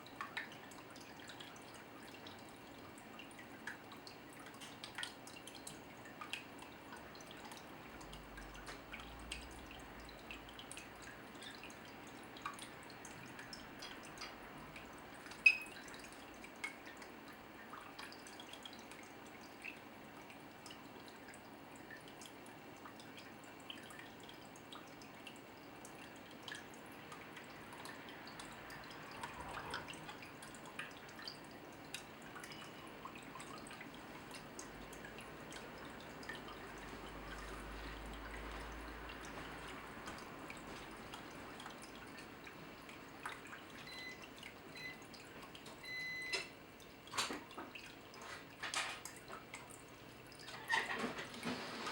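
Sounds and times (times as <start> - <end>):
water dripping and trickling: 0.0 - 51.9.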